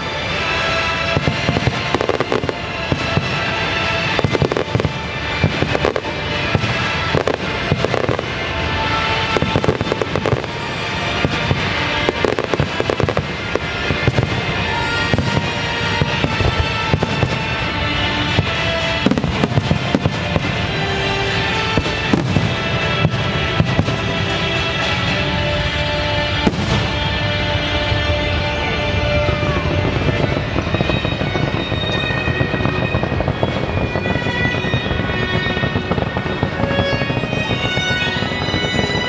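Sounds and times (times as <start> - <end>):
fireworks bangs and crackles: 0.0 - 39.0
music playing: 0.0 - 39.0.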